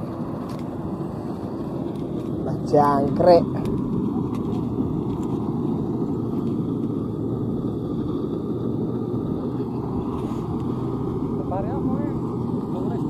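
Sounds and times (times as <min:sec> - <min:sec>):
combine harvester engine rumble: 0:00.0 - 0:13.0.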